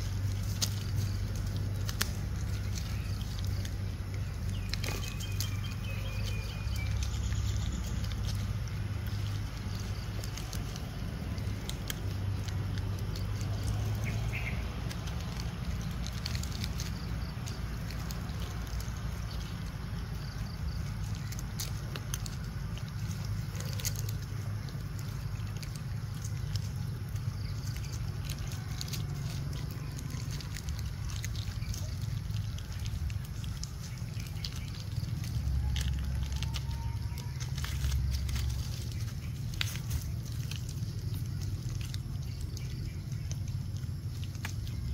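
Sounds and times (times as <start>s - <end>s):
plastic wrappers crackling: 0.0s - 44.9s
steady low rumble: 0.0s - 44.9s.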